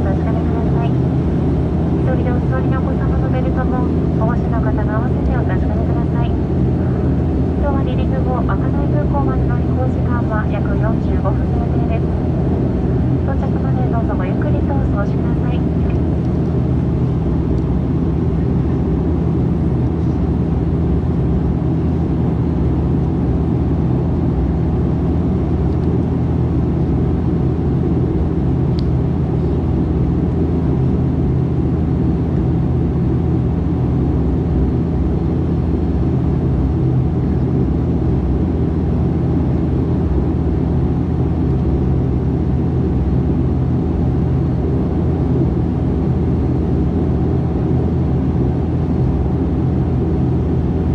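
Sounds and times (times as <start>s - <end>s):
turboprop cabin drone: 0.0s - 50.9s.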